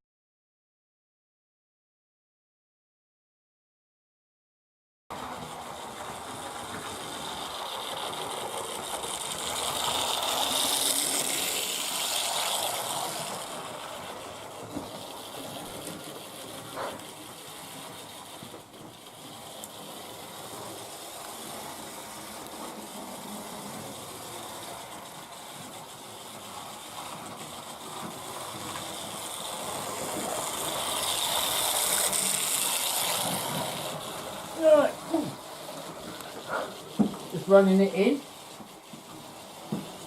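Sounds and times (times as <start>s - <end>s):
model train motor whirring: 5.1s - 40.0s.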